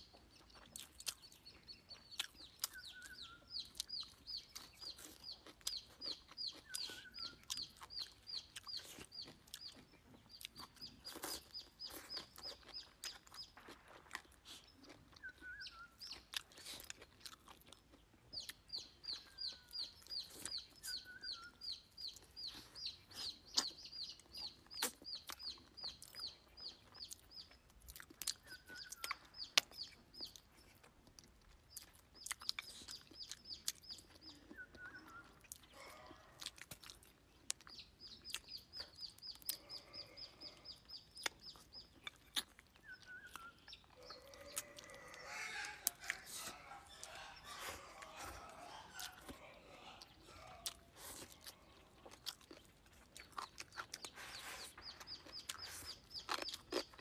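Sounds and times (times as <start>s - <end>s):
bird chirping: 0.0s - 57.0s
chewing clicks and crunches: 0.0s - 57.0s.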